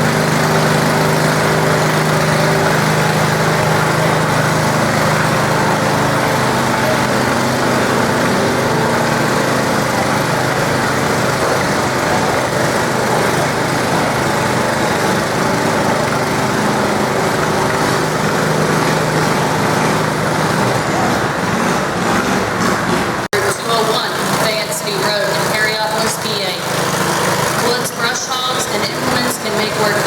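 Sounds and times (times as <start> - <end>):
garden tractor engine running: 0.0 - 30.0.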